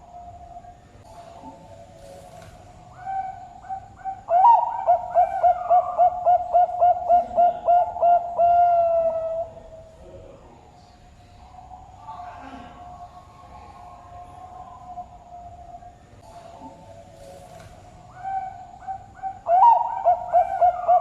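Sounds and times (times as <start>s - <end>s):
dove cooing: 0.0s - 9.9s, 11.4s - 21.0s.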